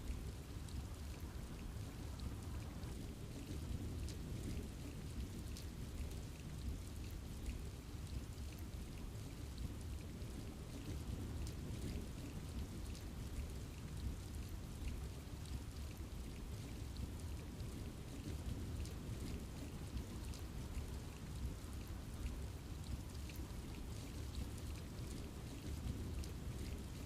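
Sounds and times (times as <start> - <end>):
steady rain in forest: 0.0 - 27.0.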